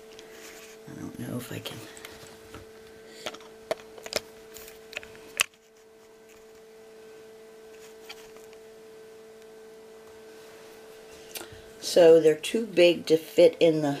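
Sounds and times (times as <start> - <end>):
incubator fan motor humming: 0.0 - 14.0.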